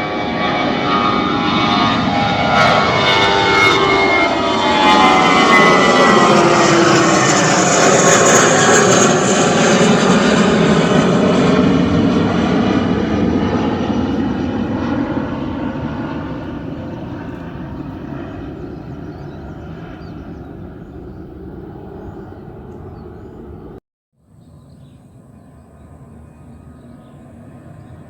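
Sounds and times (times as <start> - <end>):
airliner taking off: 0.0 - 23.8.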